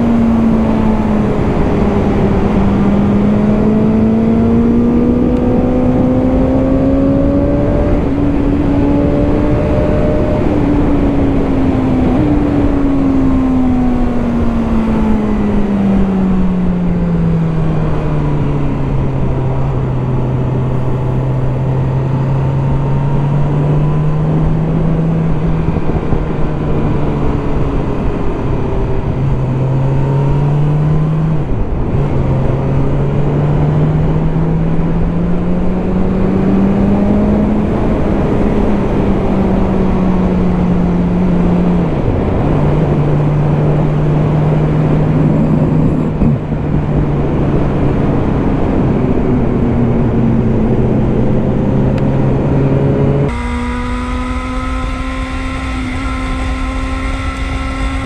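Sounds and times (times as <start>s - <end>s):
heavy wind noise: 0.0s - 58.0s
motorcycle engine revving: 0.0s - 58.0s.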